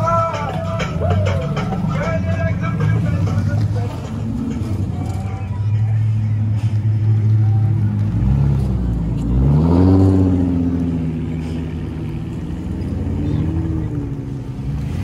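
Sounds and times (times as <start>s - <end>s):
car engines rumbling past: 0.0s - 15.0s
engine revving: 0.6s - 15.0s.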